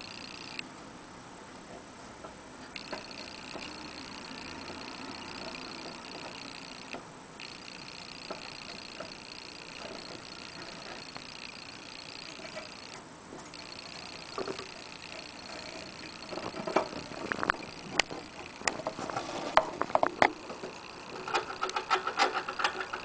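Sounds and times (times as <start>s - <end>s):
hamsters clicking and tapping: 2.8s - 19.0s, 19.6s - 23.0s.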